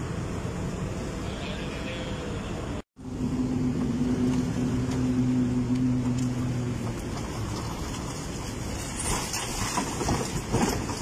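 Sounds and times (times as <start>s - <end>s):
rushing traffic noise: 0.0s - 11.0s
vehicle engine humming: 0.0s - 11.0s.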